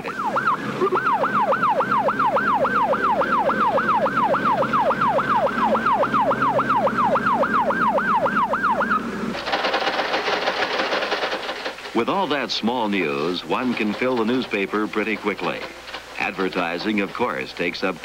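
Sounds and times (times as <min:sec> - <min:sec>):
fire truck siren yelping: 0:00.0 - 0:16.8.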